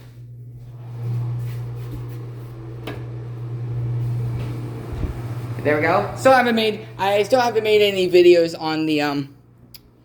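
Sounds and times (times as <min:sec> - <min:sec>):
exhaust fan humming: 0:00.0 - 0:10.0.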